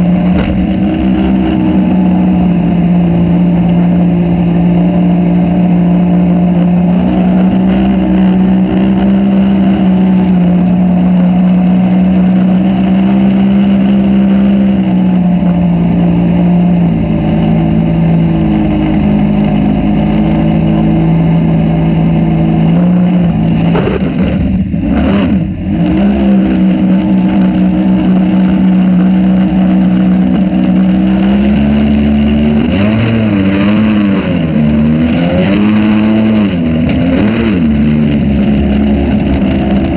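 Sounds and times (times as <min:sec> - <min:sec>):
boat motor running: 0:00.0 - 0:39.9.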